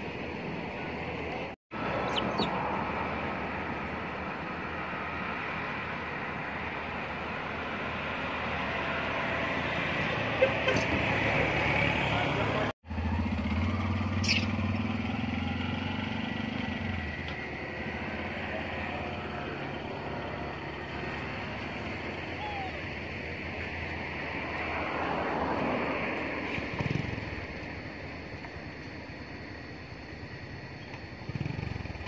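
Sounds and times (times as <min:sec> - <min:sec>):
outdoor background noise: 0:00.0 - 0:32.0
vehicle engine humming: 0:00.0 - 0:32.0.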